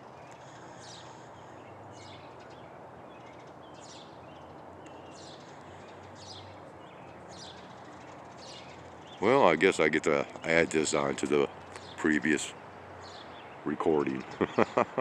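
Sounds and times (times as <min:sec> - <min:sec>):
outdoor background hiss: 0:00.0 - 0:15.0
songbird chirping: 0:00.0 - 0:15.0.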